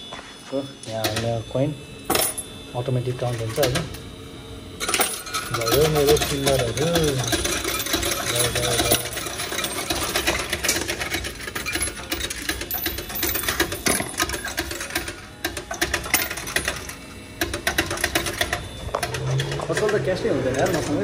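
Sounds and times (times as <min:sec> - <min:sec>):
coins rattling in counting machine: 0:02.1 - 0:02.5, 0:03.1 - 0:04.0, 0:04.8 - 0:21.0.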